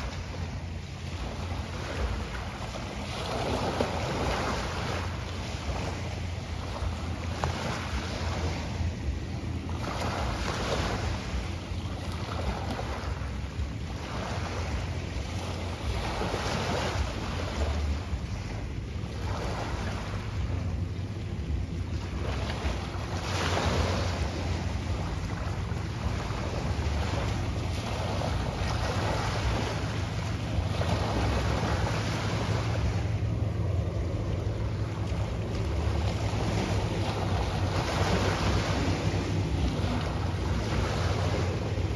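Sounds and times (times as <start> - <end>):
waves washing: 0.0 - 41.9
wind buffeting microphone: 0.0 - 41.9.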